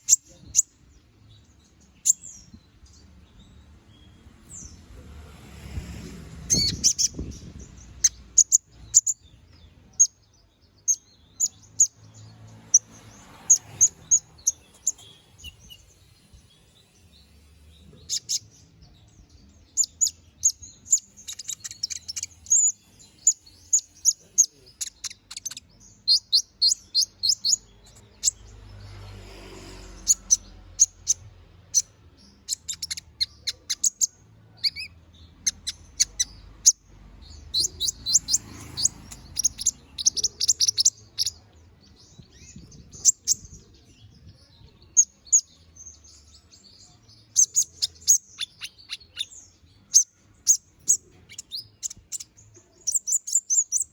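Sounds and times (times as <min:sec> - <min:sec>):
canary singing trills and chirps: 0:00.0 - 0:53.9.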